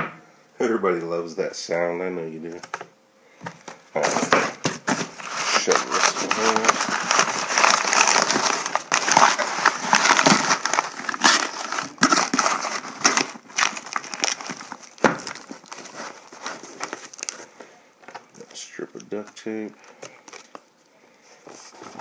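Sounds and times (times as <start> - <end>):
packing crinkling and rustling: 3.4 - 22.0.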